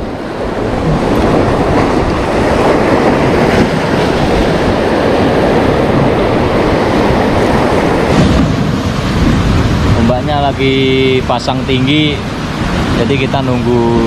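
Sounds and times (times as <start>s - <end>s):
heavy surf breaking on shore: 0.0s - 14.0s.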